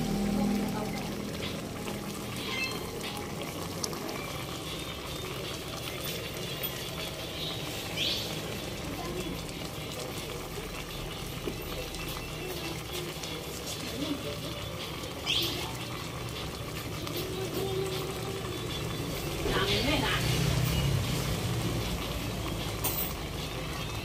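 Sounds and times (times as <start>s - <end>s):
sauce bubbling in a pot: 0.0s - 24.0s.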